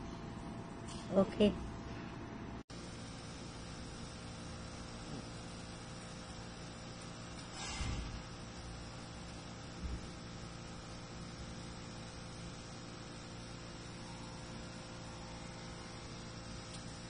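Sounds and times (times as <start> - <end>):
laser cutter hum and hiss: 2.7 - 17.0.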